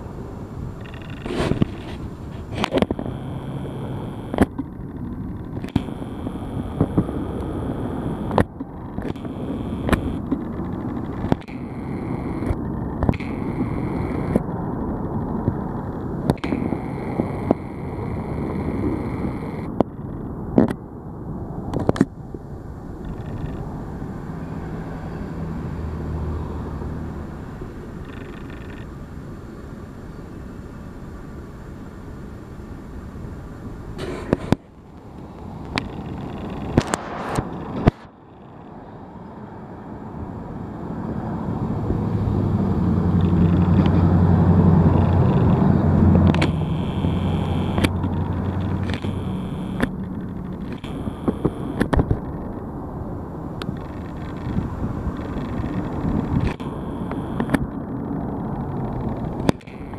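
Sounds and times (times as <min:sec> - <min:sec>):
low hum: 0:00.0 - 0:28.2, 0:33.9 - 0:59.9.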